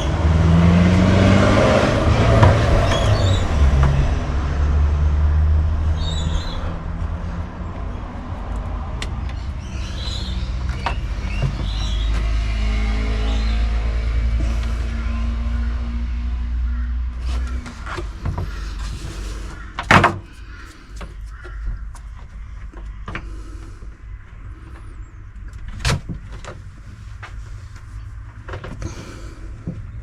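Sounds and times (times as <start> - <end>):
vehicle engine rumble: 0.0 - 30.0.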